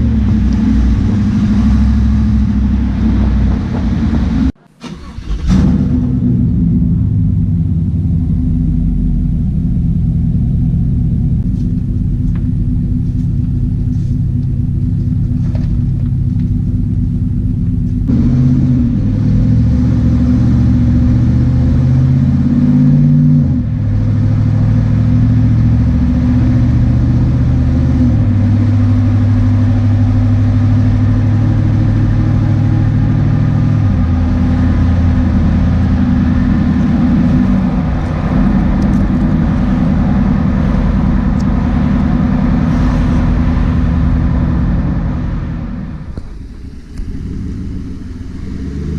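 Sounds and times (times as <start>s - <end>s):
truck exhaust rumbling: 0.0s - 48.9s.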